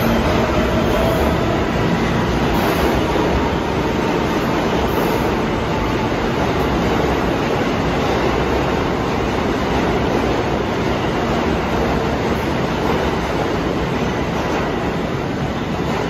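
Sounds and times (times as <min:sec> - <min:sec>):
steel wheels on rail: 0:00.0 - 0:16.0.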